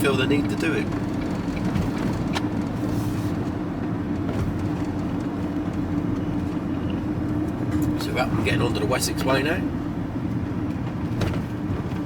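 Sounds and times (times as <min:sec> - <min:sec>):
vehicle engine drone and road rumble: 0:00.0 - 0:12.0.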